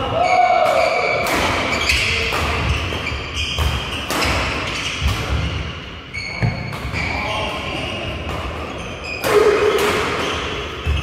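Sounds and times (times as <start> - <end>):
sneakers squeaking on wooden court: 1.1 - 11.0.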